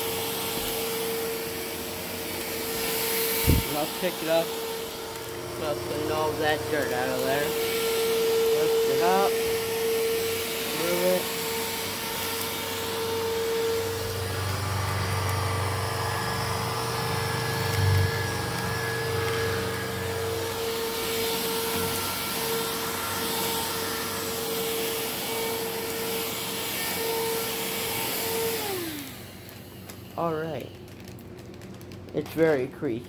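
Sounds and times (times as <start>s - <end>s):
vacuum cleaner motor whine: 0.0s - 33.0s.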